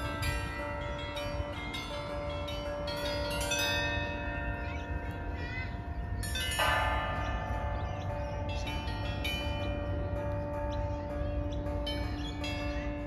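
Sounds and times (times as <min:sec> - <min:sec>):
bells ringing: 0:00.0 - 0:13.0.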